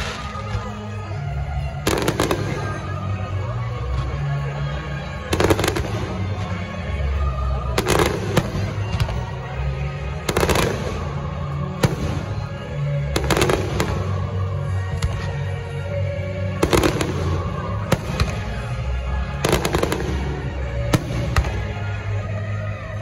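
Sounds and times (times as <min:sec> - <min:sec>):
music playing: 0:00.0 - 0:23.0.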